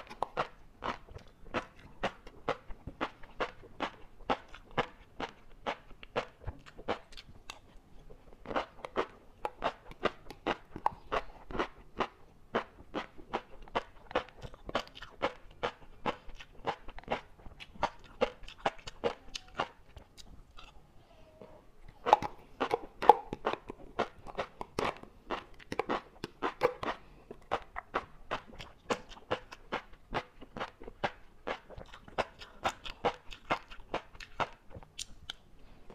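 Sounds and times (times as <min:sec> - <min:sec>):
chewing crunchy food: 0:00.0 - 0:20.9, 0:21.8 - 0:35.9.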